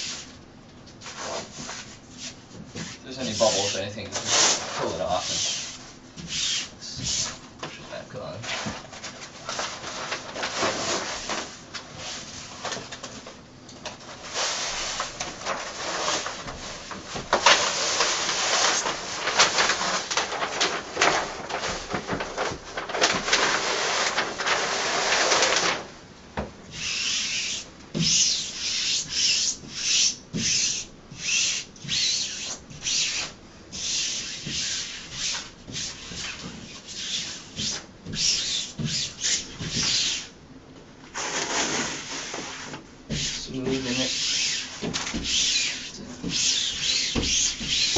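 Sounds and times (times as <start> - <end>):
hands rubbing wall wrap: 0.0 - 0.4, 1.0 - 25.9, 26.7 - 40.4, 41.1 - 47.9
hands swiping wall wrap: 1.0 - 7.4, 8.4 - 25.9, 26.7 - 40.3, 41.1 - 47.9.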